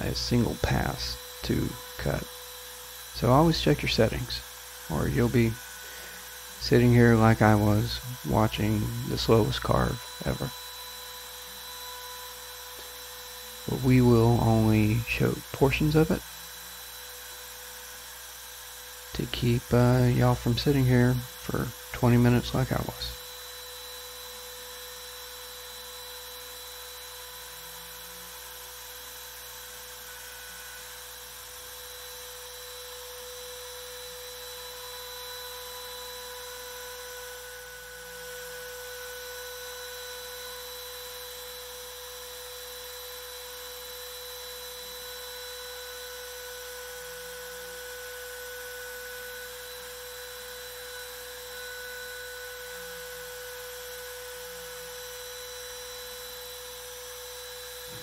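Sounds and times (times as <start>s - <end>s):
router whining while carving: 0.0s - 58.0s.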